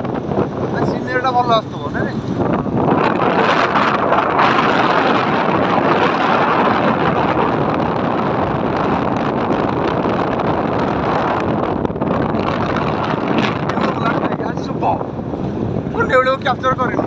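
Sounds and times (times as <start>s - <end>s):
motorcycle road and engine noise: 0.0s - 17.0s
wind rushing over microphone: 0.0s - 17.0s.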